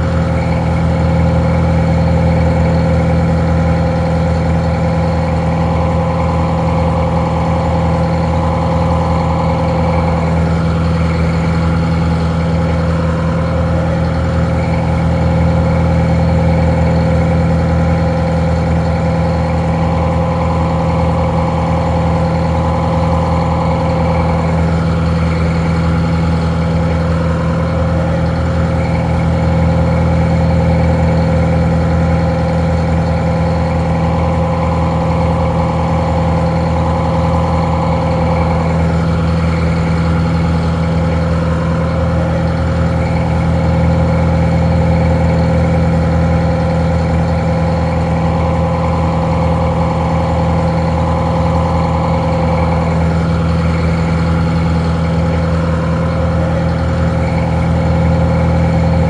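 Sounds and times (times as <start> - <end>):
muffled diesel engine idling: 0.0 - 59.0.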